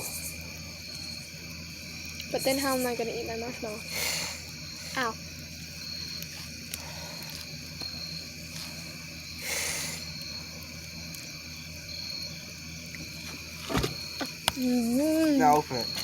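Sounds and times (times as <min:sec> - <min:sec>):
campfire crackles: 0:00.0 - 0:16.0
night insects chorus: 0:00.0 - 0:16.0.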